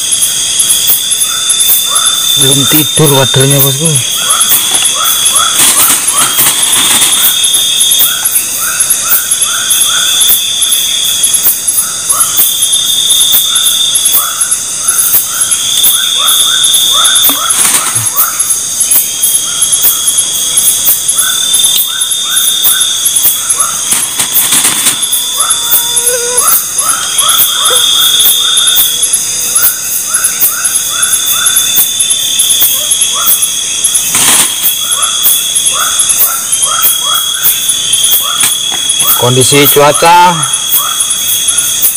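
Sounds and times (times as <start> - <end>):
insect trill: 0.0 - 41.9
insects shrilling: 0.0 - 41.9
short insect chirps: 0.0 - 41.9.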